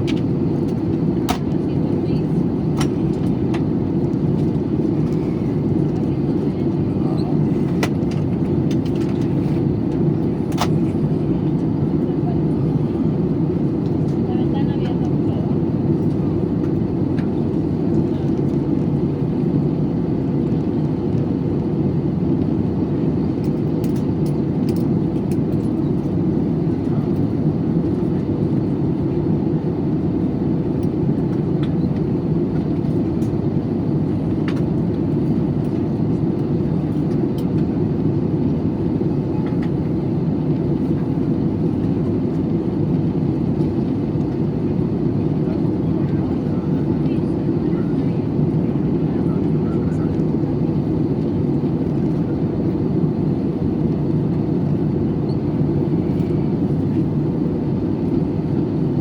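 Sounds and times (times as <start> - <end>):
airliner cabin drone: 0.0 - 59.0.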